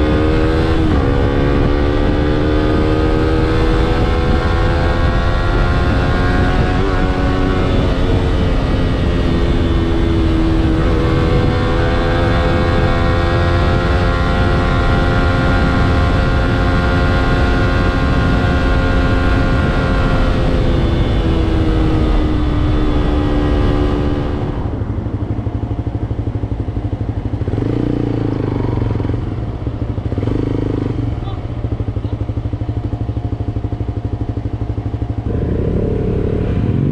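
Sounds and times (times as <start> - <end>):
motorcycle engine running: 0.0 - 36.9
wind noise: 0.0 - 36.9.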